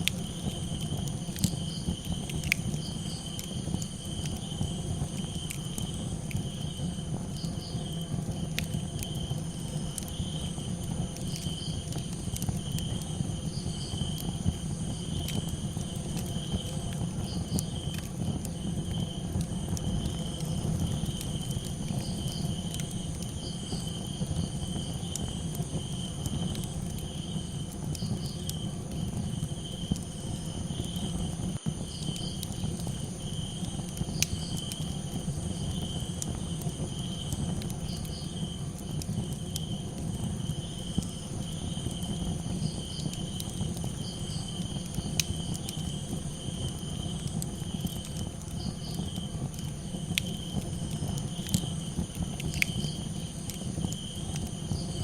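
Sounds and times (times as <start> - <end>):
campfire crackling: 0.0 - 55.0
crickets chirping: 0.0 - 55.0.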